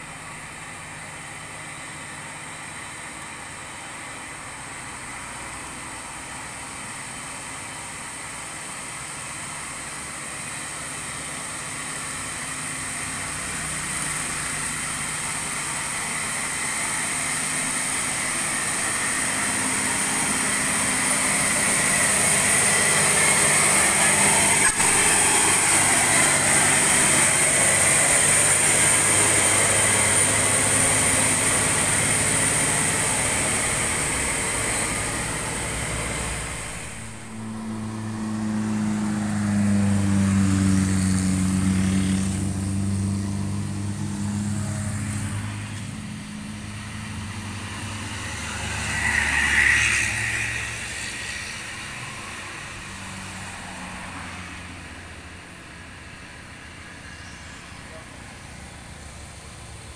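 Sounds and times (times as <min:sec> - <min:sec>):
truck diesel engine labouring: 0:00.0 - 0:59.9.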